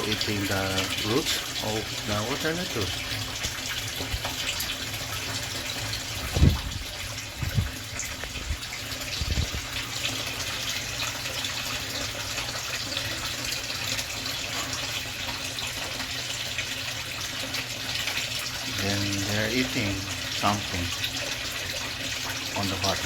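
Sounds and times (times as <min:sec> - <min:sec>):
water splashing into pond: 0:00.0 - 0:23.0.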